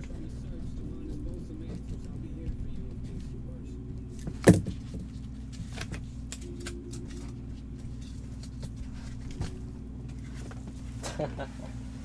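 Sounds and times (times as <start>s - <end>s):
items being handled: 0.0s - 12.0s
low hum: 0.0s - 12.0s.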